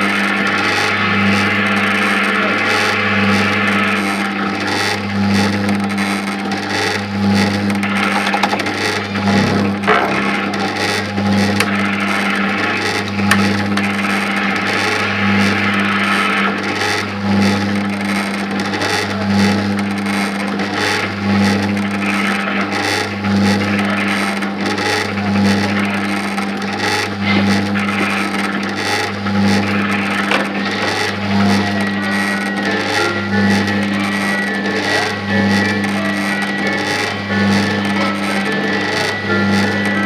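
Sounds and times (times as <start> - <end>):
kiddie ride motor hum: 0.0 - 40.0
rattling mechanical noise: 0.0 - 40.0.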